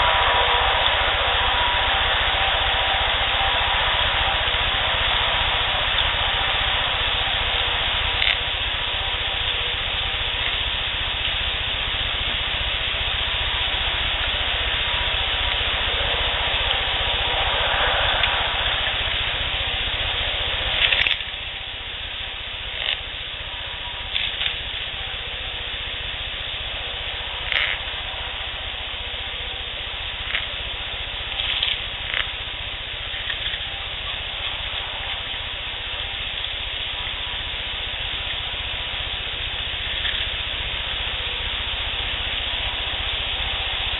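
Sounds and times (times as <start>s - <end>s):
low rumble: 0.0s - 43.9s
steady hiss: 0.0s - 43.9s.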